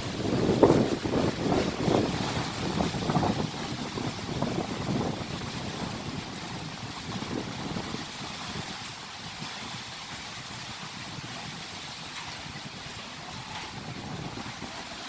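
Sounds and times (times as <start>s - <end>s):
strong wind gusting on microphone: 0.0s - 15.0s.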